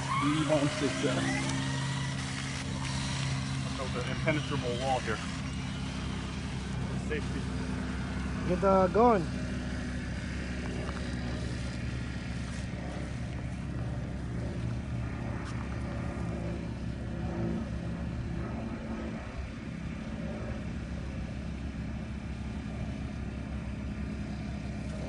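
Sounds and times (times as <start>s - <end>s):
faint wavering engine hum: 0.0s - 25.0s
low outdoor rumble: 0.0s - 25.0s.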